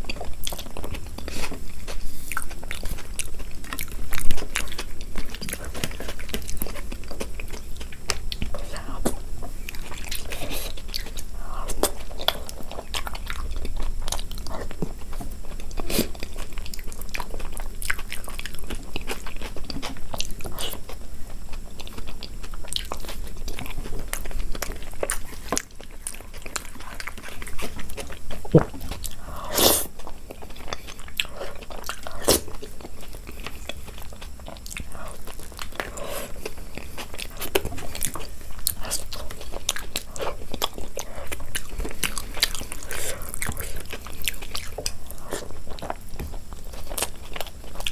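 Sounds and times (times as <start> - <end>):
chewing and crunching: 0.0 - 47.9.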